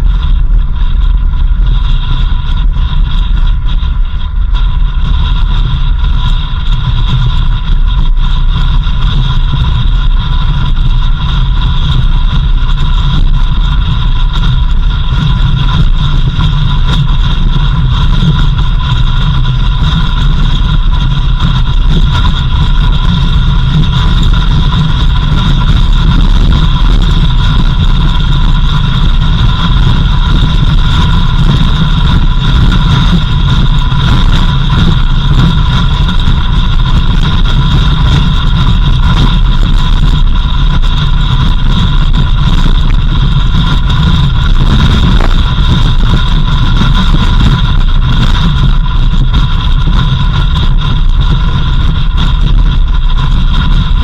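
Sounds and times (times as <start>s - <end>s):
steady high whine: 0.0s - 54.0s
vehicle engine running: 0.0s - 54.0s.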